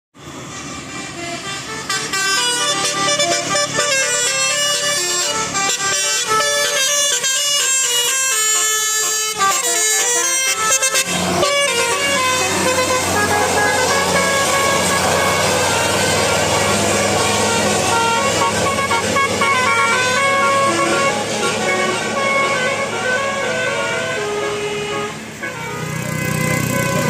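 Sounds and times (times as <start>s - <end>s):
multi-tone air horn melody: 0.3s - 27.0s.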